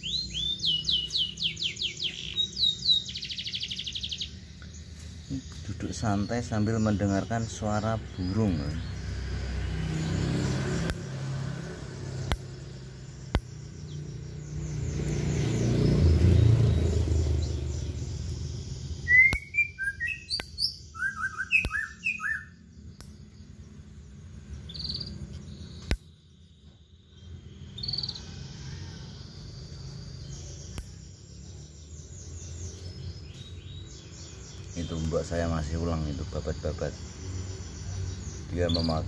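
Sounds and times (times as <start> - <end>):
bird singing whistled notes: 0.0 - 39.0
high bird calls: 0.0 - 39.0.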